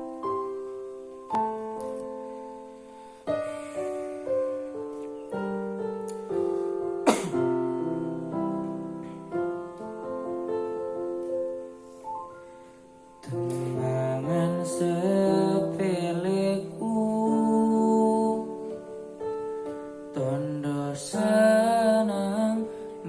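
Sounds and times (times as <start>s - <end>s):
piano keyboard chords: 0.0s - 23.0s.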